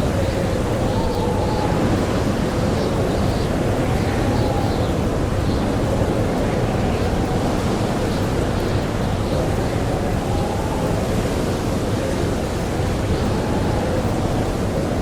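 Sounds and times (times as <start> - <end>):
blizzard wind howling: 0.0 - 15.0.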